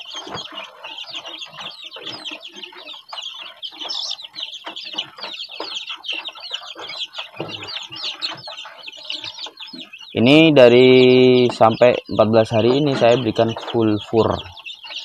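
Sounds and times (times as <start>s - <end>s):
chicks pecking at feed: 0.0s - 15.0s
chicks peeping: 0.0s - 15.0s.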